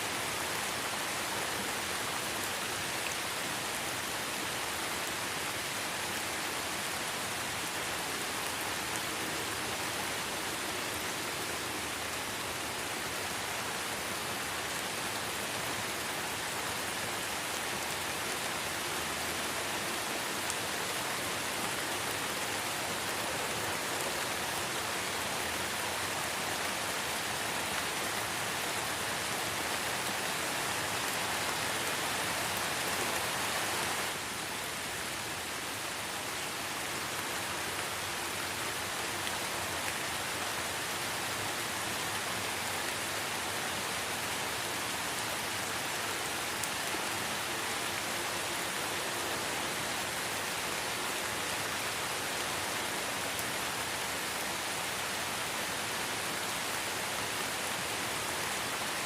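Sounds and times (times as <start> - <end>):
light rain falling: 0.0 - 59.0.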